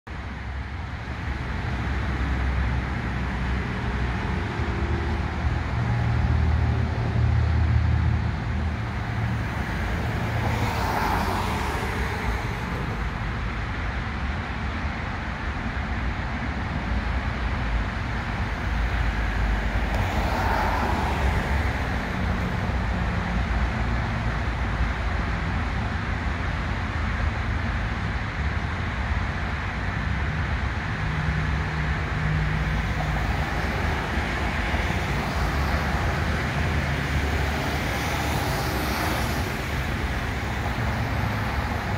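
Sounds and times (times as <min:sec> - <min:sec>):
traffic rumble: 0:00.0 - 0:41.9.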